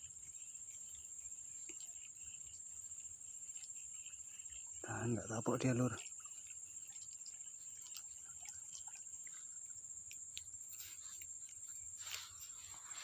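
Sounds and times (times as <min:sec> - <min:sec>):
faint ticks: 0:00.0 - 0:13.0
insects trilling: 0:00.0 - 0:13.0.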